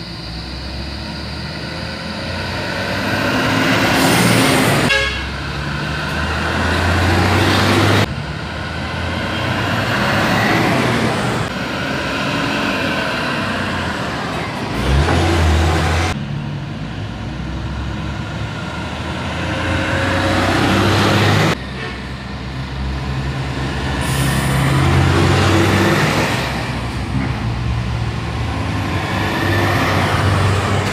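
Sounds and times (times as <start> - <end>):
buses driving past: 0.0 - 30.9.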